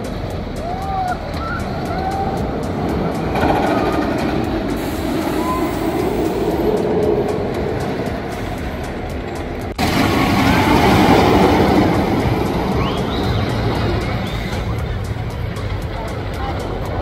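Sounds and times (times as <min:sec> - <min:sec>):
roller coaster chain lift clacking: 0:00.0 - 0:17.0
steady rushing noise: 0:00.0 - 0:17.0.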